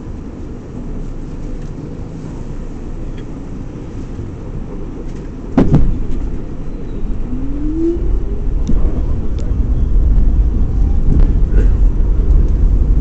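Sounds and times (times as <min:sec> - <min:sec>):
subway wheels rumbling on track: 0:00.0 - 0:13.0.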